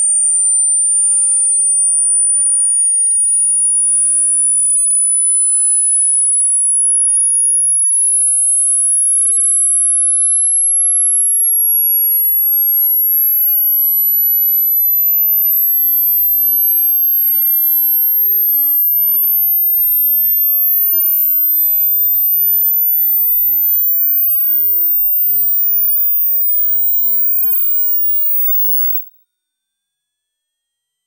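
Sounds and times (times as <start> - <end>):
sine tone gliding upward: 0.0 - 29.1.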